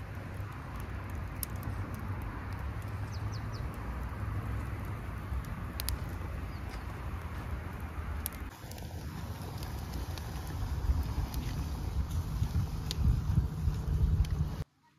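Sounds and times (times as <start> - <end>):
steady rain: 0.0 - 14.6.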